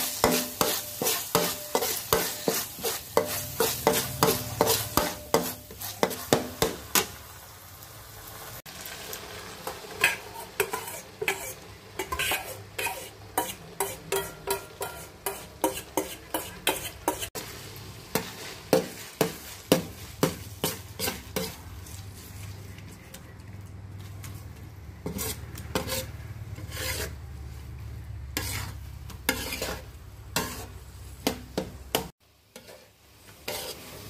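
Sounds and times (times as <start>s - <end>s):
metal spatula scraping a wok: 0.0s - 7.2s, 9.6s - 23.3s, 25.0s - 34.0s
faint sizzle: 0.0s - 34.0s.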